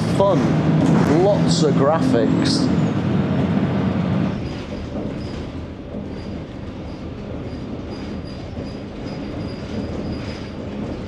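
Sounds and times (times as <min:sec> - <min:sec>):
bus cabin rumble: 0:00.0 - 0:11.0.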